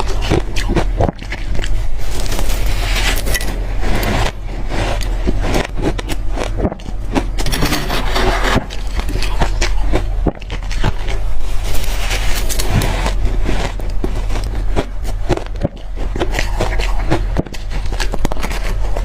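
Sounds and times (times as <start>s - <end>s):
chewing crushed ice: 0.0s - 19.0s.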